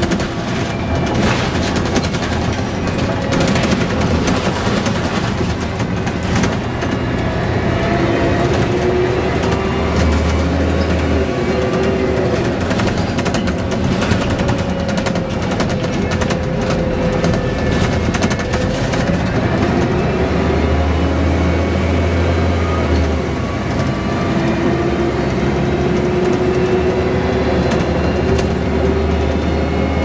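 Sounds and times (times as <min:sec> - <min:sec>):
bus engine running: 0:00.0 - 0:30.0.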